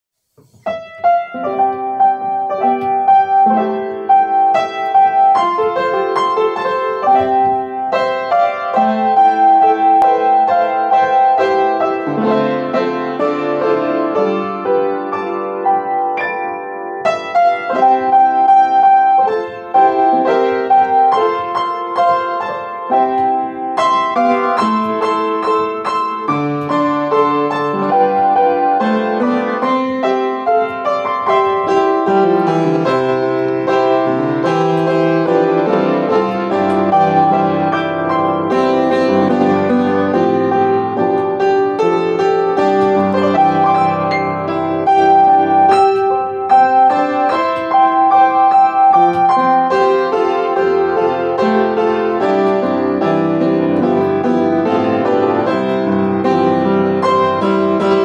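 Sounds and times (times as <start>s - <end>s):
solo piano melody: 0.2s - 58.0s.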